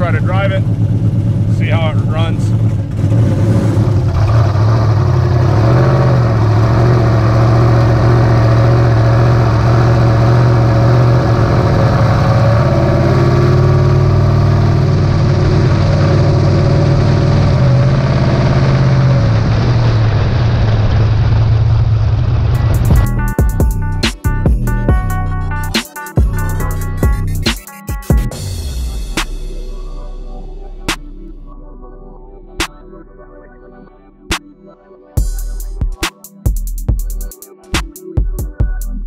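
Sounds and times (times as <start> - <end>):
car engine droning: 0.0 - 25.7, 28.3 - 34.2.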